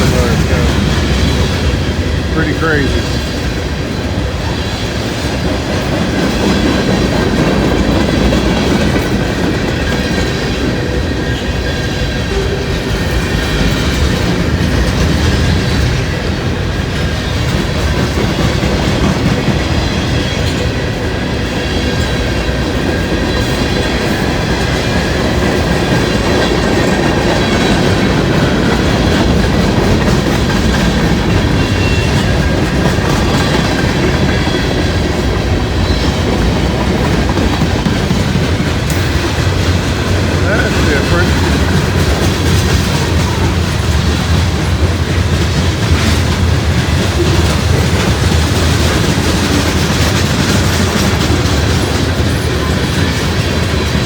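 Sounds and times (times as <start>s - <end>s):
freight train rumbling past: 0.0s - 54.0s
wheels clattering over rails: 0.0s - 54.0s.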